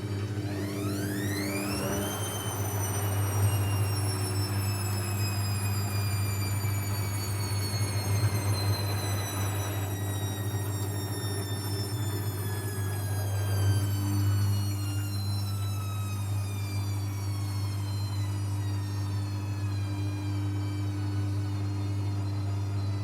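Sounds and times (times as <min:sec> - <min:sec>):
motor whine falling in pitch: 0:00.0 - 0:23.0
washing machine hum: 0:00.0 - 0:23.0.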